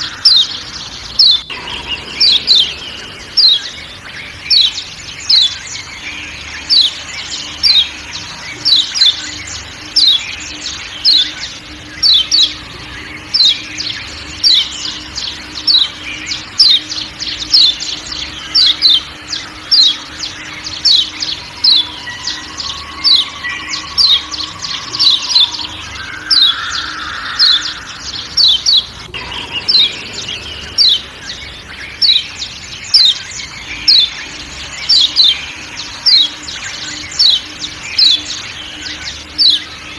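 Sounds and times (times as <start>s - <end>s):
faint low hum: 0.0s - 39.9s
soft forest background: 0.0s - 39.9s.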